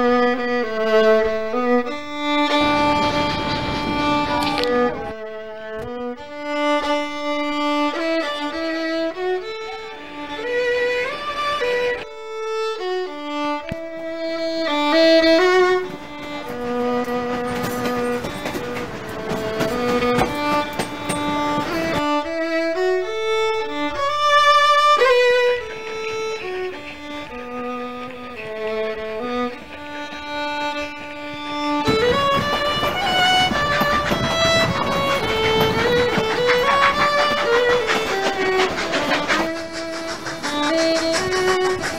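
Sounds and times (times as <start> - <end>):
solo fiddle melody: 0.0 - 41.9.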